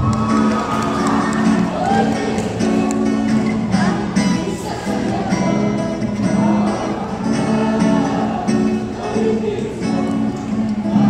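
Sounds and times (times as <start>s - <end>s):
live band with guitars: 0.0s - 11.0s.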